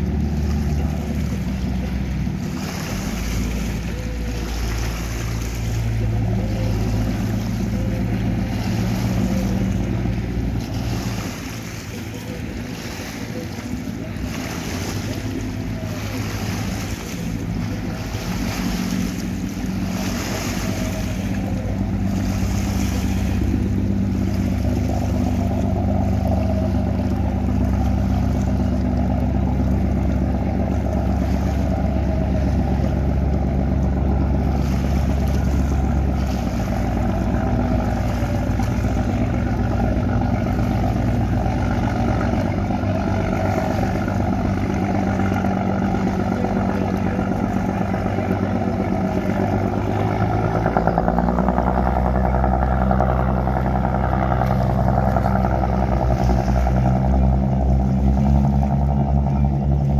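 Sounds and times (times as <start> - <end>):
boat diesel engines droning: 0.0 - 59.9.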